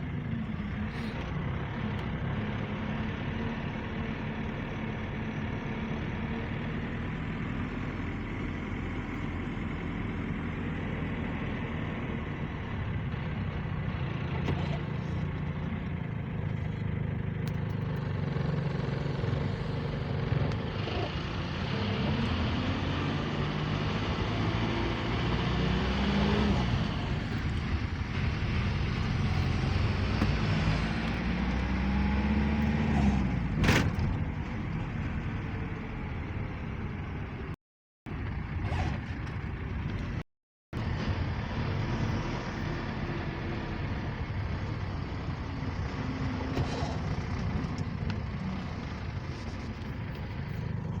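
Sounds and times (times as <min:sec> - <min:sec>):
vehicle engine accelerating: 0:00.0 - 0:40.2, 0:40.8 - 0:51.0
road noise: 0:00.0 - 0:51.0.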